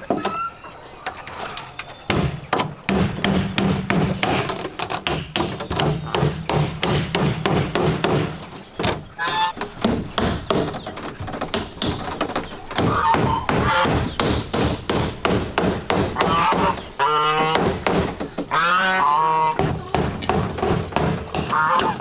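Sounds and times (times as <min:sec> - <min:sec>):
chopping blows: 0:02.1 - 0:18.7, 0:19.5 - 0:22.0.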